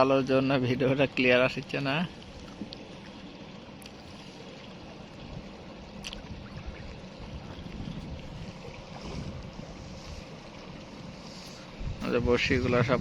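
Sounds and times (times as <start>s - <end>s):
river water rumbling: 0.0s - 13.0s.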